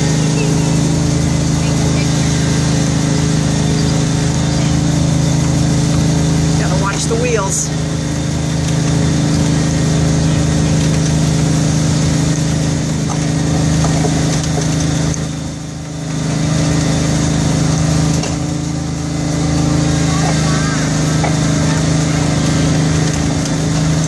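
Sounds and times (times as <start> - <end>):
small train engine humming: 0.0 - 24.0.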